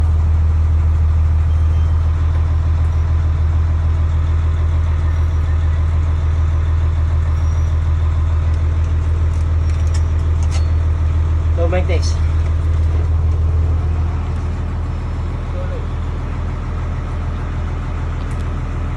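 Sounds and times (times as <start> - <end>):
fire truck engine idling: 0.0 - 18.9.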